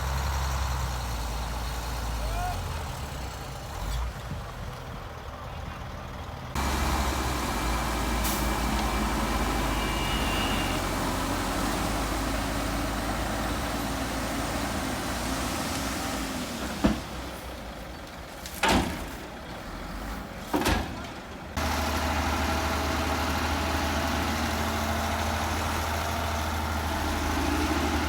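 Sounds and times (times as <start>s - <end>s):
truck engine rumble: 0.0s - 28.0s.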